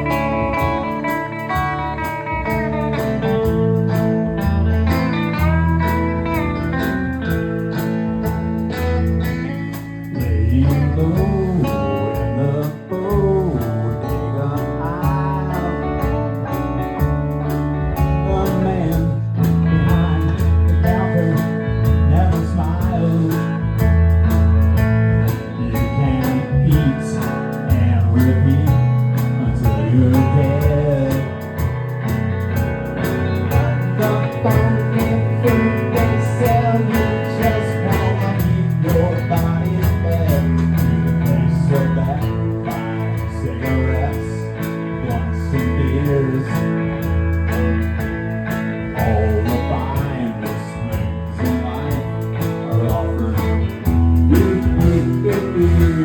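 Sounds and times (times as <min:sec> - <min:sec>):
live band playing country blues: 0:00.0 - 0:56.0.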